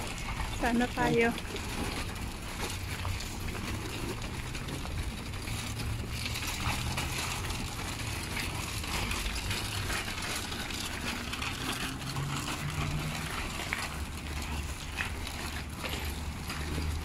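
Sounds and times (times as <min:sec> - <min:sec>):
shopping cart rattling on asphalt: 0:00.0 - 0:17.0.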